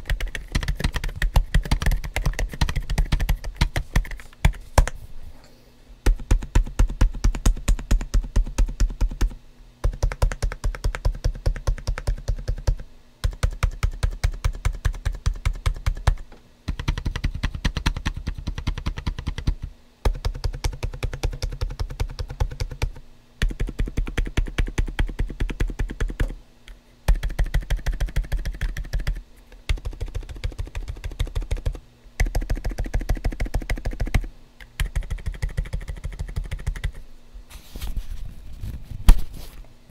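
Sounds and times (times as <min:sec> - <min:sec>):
muted keyboard typing: 0:00.0 - 0:05.0, 0:06.1 - 0:26.4, 0:27.1 - 0:37.0.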